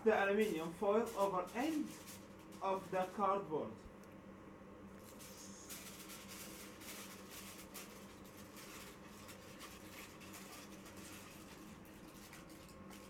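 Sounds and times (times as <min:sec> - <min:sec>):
aluminium foil crinkling: 0:00.0 - 0:03.4, 0:04.9 - 0:13.0.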